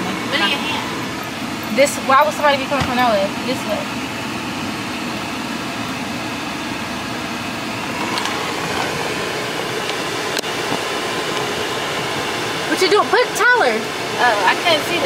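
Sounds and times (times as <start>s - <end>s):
air conditioning fan hiss: 0.0s - 15.0s
car engine and tyres humming: 0.0s - 15.0s.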